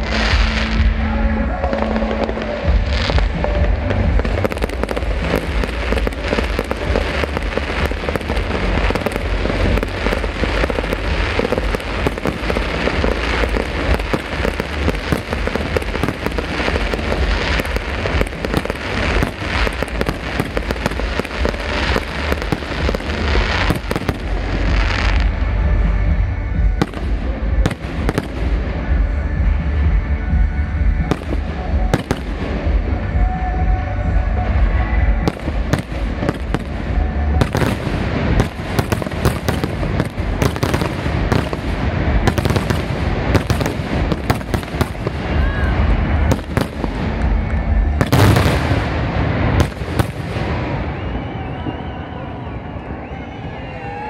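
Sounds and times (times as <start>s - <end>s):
fireworks bursting and crackling: 0.0s - 53.1s.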